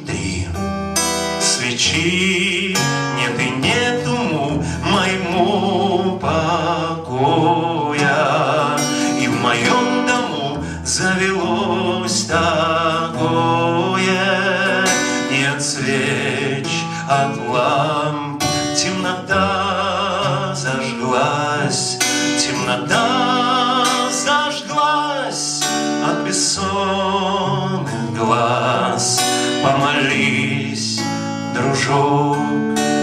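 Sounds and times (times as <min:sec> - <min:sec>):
acoustic guitar: 0:00.0 - 0:33.0
man singing: 0:00.0 - 0:33.0.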